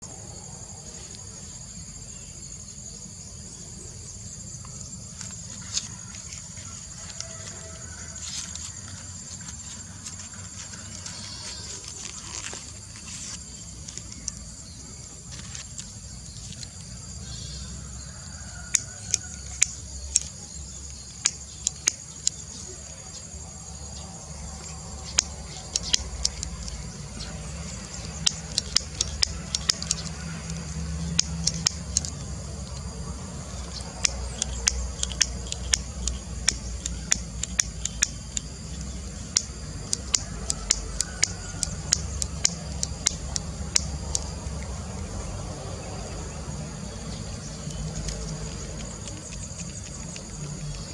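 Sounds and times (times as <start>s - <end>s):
high insect-like drone: 0.0s - 50.9s.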